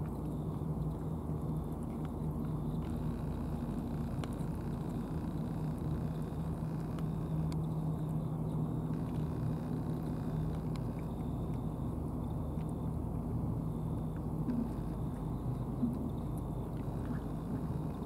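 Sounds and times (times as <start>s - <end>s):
motor idling hum: 0.0s - 18.0s.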